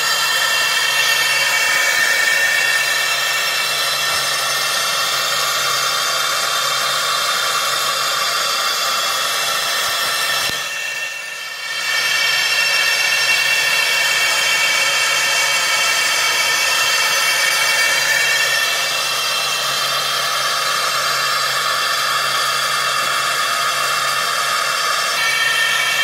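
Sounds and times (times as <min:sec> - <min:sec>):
high whining tones: 0:00.0 - 0:26.0
machine steady hiss: 0:00.0 - 0:26.0.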